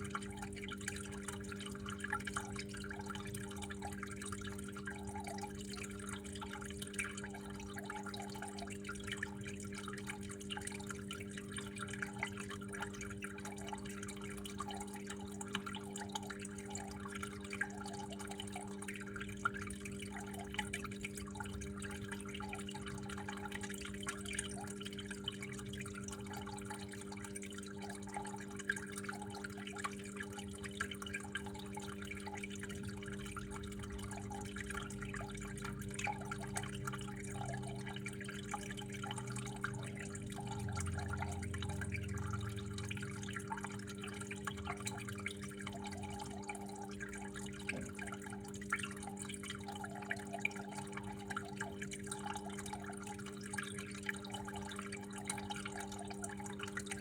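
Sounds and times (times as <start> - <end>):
water trickling and dripping: 0.0 - 57.0.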